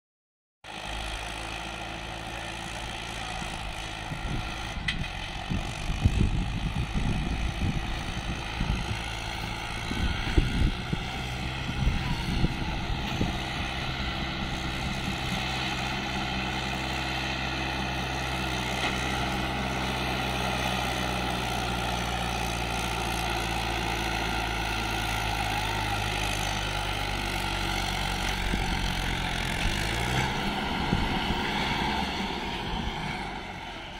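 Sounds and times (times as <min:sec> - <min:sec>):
tractor diesel engine running: 0:00.7 - 0:33.9.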